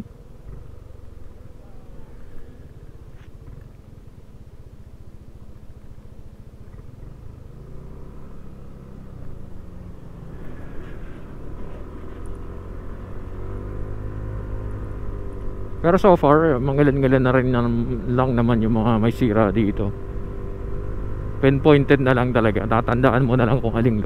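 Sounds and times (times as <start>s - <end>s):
scooter engine running: 0.1s - 24.0s.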